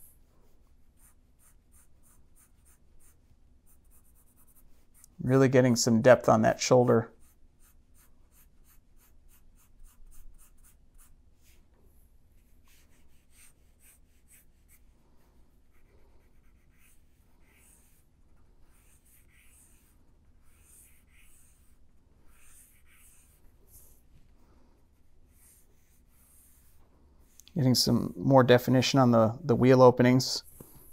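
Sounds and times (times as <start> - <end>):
pencil shading on paper: 0.0 - 5.2, 7.1 - 28.3.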